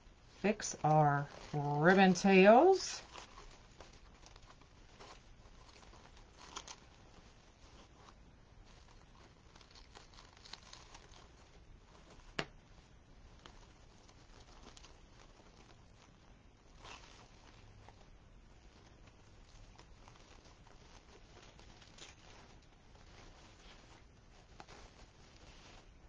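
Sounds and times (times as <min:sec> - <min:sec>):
ribbon rustling and crinkling: 0:00.0 - 0:26.0.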